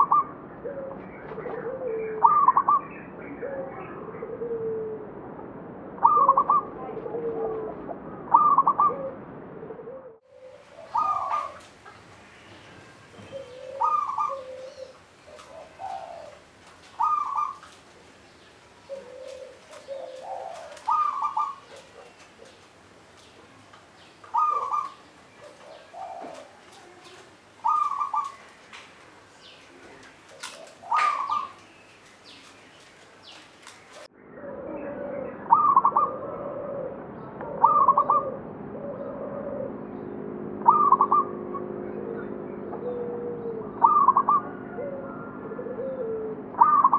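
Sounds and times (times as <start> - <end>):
dove cooing: 0.0 - 5.1, 6.0 - 32.5, 33.2 - 40.0, 40.6 - 46.9.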